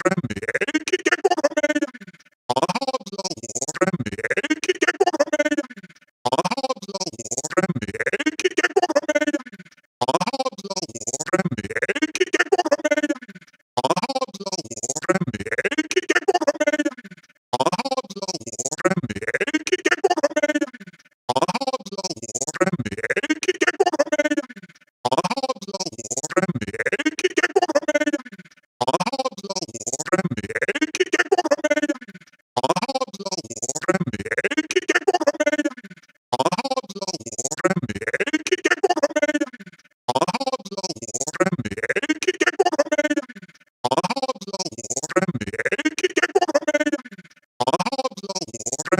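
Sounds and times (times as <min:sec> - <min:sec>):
stuttering robotic voice: 0:00.0 - 0:48.9.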